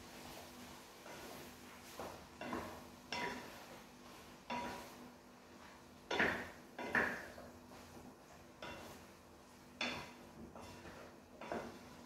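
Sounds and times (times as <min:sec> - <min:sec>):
spatula scraping frying pan: 0:00.1 - 0:12.0.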